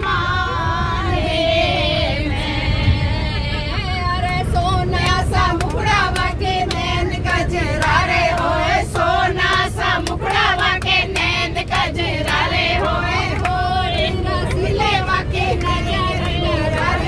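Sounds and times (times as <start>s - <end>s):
bus rumble: 0.0s - 17.0s
women singing together: 0.0s - 17.0s.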